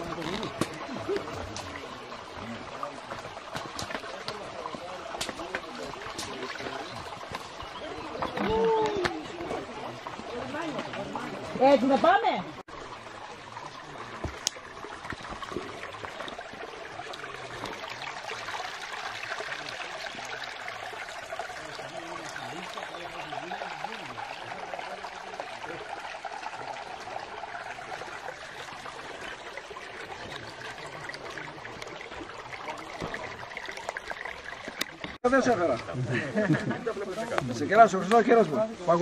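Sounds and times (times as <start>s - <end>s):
stream trickling over rocks: 0.0s - 39.0s.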